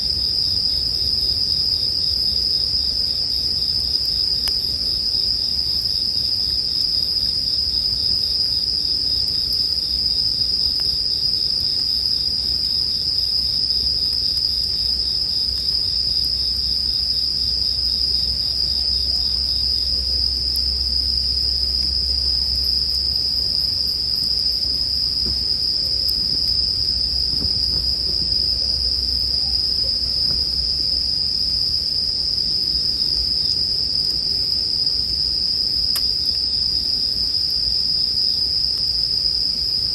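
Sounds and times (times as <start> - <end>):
campfire crackles: 0.0 - 39.9
crickets chirping: 0.0 - 39.9.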